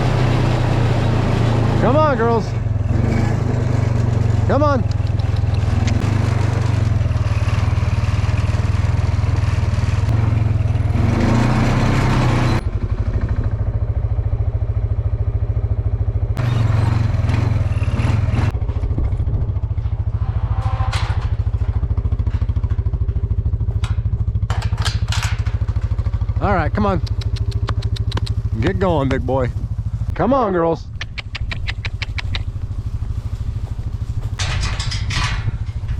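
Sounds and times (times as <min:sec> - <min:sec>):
small engine running: 0:00.0 - 0:19.9, 0:21.4 - 0:30.1, 0:30.9 - 0:35.9.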